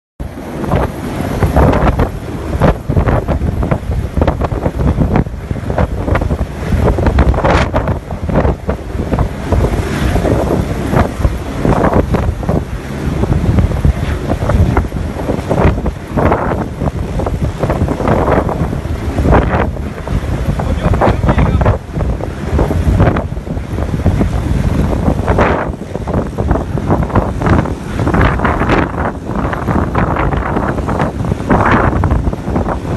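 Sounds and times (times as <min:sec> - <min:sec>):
wind buffeting on microphone: 0:00.2 - 0:32.9.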